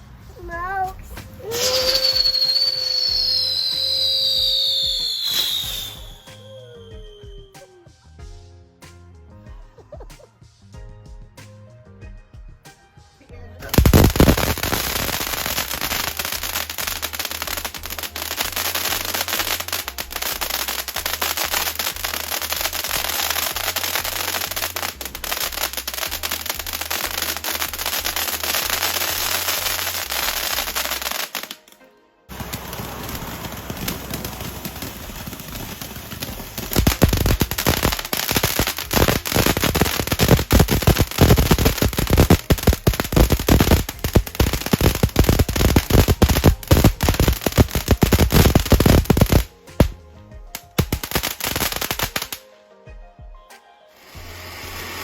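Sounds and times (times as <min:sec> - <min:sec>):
firework crackling: 0:00.0 - 0:07.8, 0:13.6 - 0:52.4, 0:54.0 - 0:55.0.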